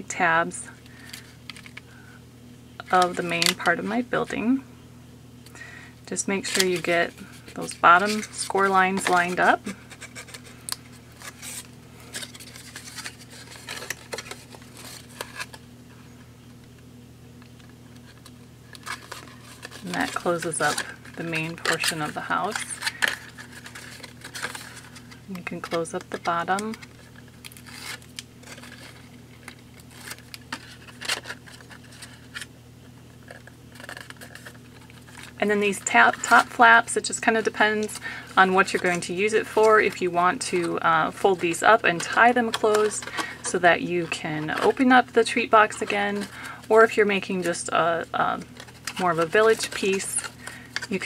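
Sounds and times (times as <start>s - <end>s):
faint steady hum: 0.0s - 51.0s
cardstock being folded: 5.7s - 15.6s, 17.4s - 51.0s.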